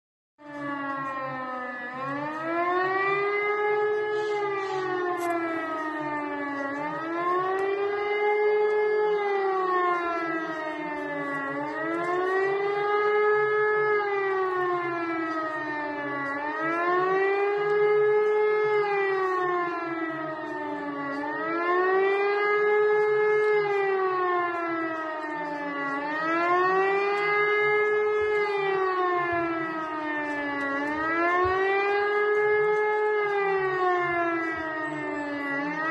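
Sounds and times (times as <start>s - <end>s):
air-raid siren wailing: 0.4s - 35.9s.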